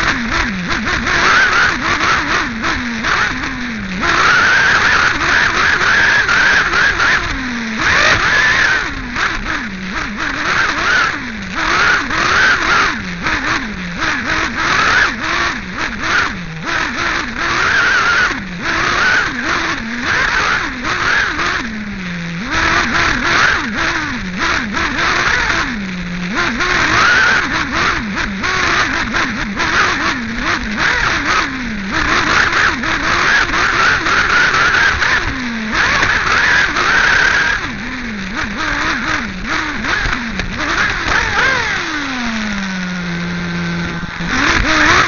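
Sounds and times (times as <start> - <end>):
small engine revving: 0.0 - 45.0.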